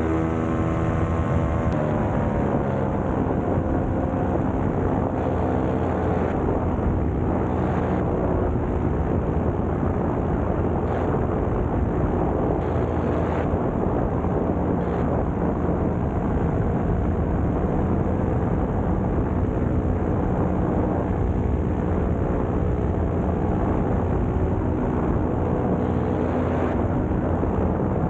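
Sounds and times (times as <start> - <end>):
paramotor engine and propeller: 0.0 - 28.0.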